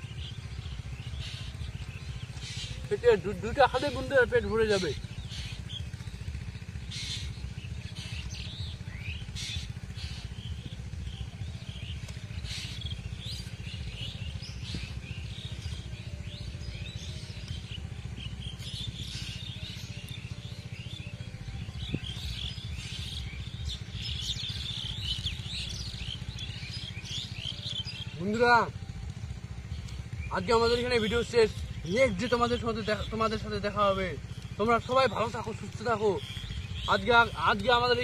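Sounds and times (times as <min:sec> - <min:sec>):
small birds chirping: 0:00.0 - 0:38.0
steady low rumble: 0:00.0 - 0:38.0.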